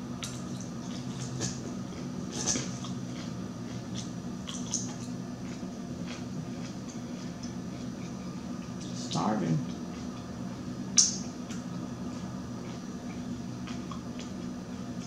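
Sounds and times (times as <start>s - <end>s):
steady low hum: 0.0s - 15.0s
chewing crunchy salad: 0.2s - 15.0s.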